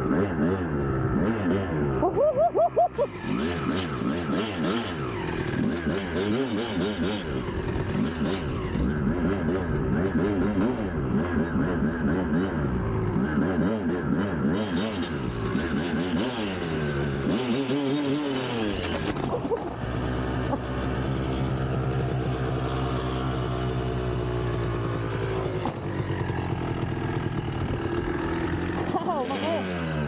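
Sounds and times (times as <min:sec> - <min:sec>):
two-stroke dirt bike engine revving: 0:00.0 - 0:30.0.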